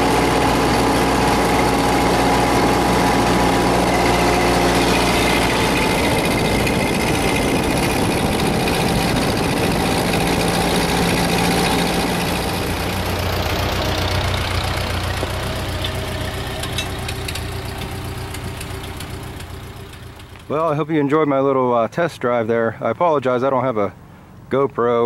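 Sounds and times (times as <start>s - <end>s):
tractor engine running: 0.0s - 23.1s.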